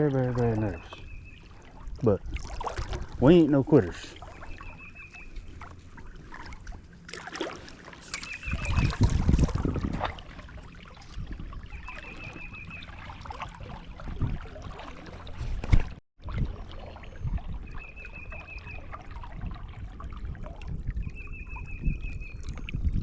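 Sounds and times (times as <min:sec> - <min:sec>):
faint water trickle: 0:00.0 - 0:15.5, 0:16.2 - 0:23.0.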